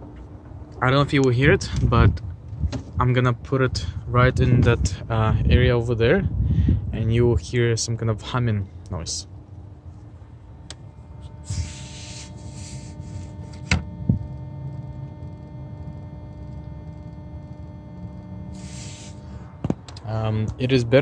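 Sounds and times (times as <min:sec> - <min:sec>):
electrical humming buzz: 0:00.0 - 0:21.0.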